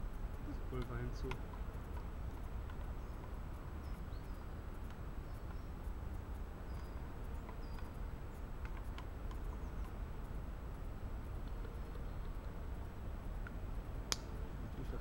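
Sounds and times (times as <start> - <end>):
birds chirping: 0.0 - 15.0
low woodland rumble: 0.0 - 15.0.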